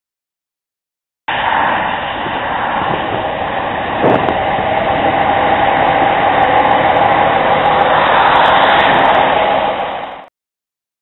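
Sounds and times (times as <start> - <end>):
diesel locomotive engine running: 1.3 - 10.3.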